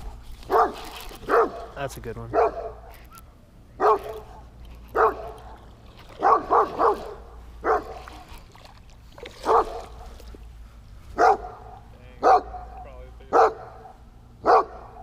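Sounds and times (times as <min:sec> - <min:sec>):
dogs barking: 0:00.0 - 0:03.2, 0:03.8 - 0:08.3, 0:09.3 - 0:10.2, 0:11.1 - 0:15.0.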